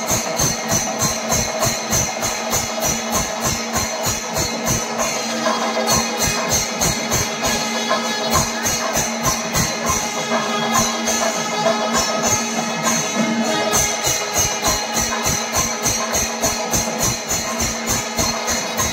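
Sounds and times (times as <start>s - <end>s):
cymbals clashing: 0.0s - 18.9s
drums beating fast: 0.0s - 18.9s.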